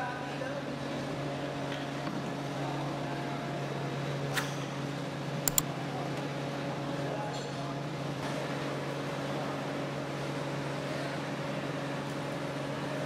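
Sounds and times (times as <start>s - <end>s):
workshop machinery hum: 0.3s - 13.0s.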